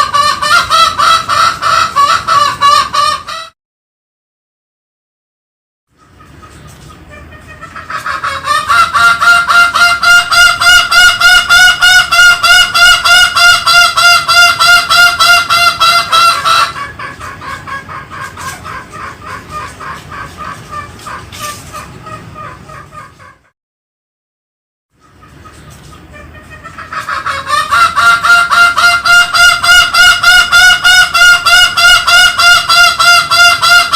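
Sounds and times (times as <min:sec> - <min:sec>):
junglefowl honking calls: 0:00.0 - 0:03.5, 0:06.0 - 0:23.5, 0:25.1 - 0:33.9.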